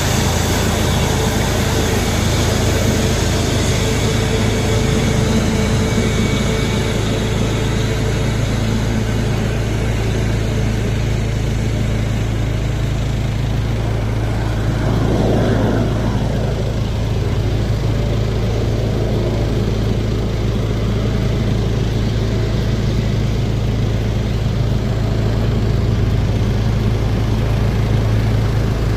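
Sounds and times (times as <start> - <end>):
low engine drone: 0.0 - 28.9.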